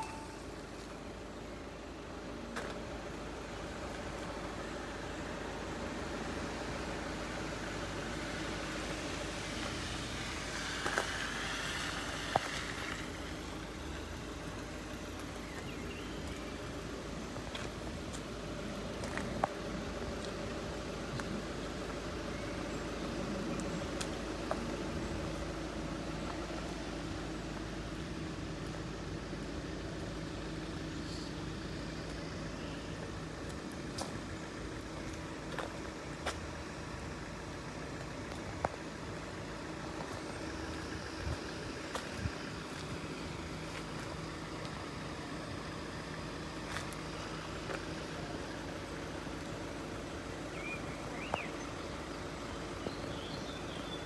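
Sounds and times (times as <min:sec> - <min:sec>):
road vehicles idling: 0:00.0 - 0:54.0.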